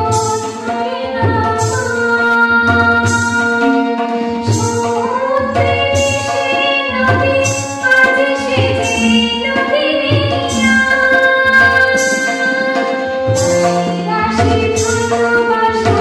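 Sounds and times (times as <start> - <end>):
tabla drumming: 0.0 - 16.0
woman singing: 0.0 - 16.0.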